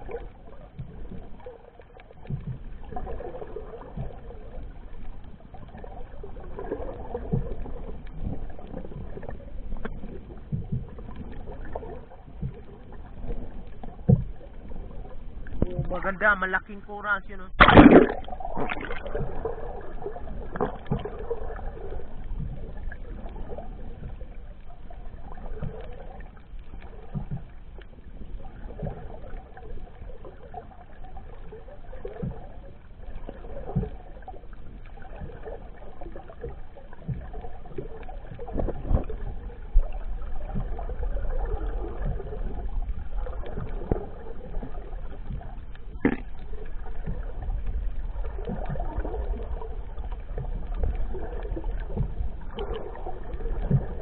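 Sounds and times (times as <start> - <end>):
underwater rumble of sea water: 0.0 - 54.0.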